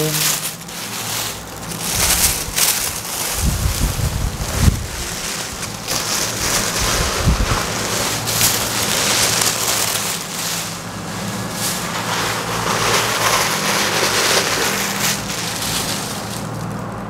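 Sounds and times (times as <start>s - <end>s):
cloth rustling: 0.0s - 17.0s
steady low hum: 0.0s - 17.0s.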